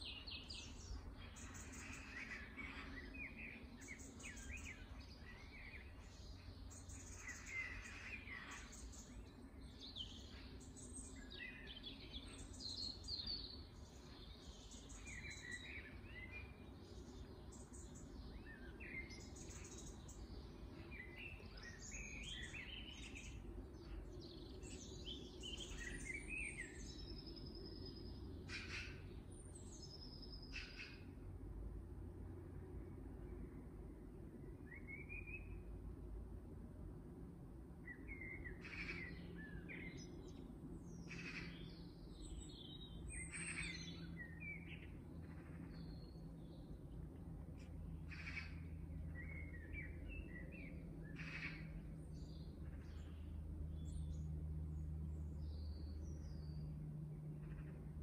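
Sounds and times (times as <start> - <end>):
small birds chirping: 0.0 - 31.2, 37.8 - 58.0
low background rumble: 0.0 - 58.0.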